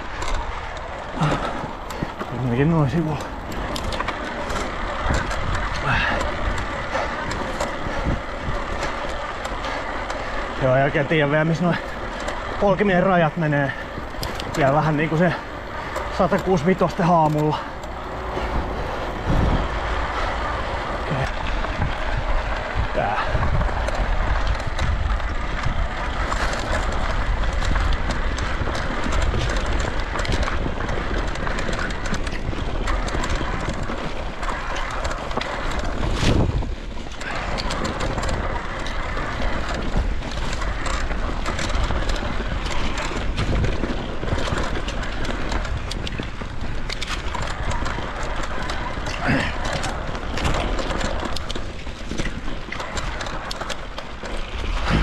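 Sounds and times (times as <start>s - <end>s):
bike rattling over bumps: 0.0s - 55.0s
bike tyre noise on dirt trail: 0.0s - 55.0s
wind buffeting microphone: 0.0s - 55.0s.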